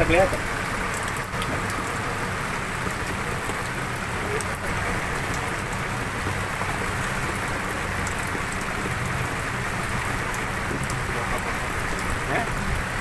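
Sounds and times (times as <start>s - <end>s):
rain hissing on water: 0.0s - 13.0s.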